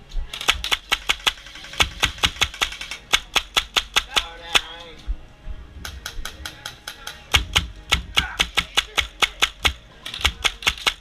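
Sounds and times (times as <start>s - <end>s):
airsoft guns firing: 0.4s - 4.7s, 5.9s - 11.0s.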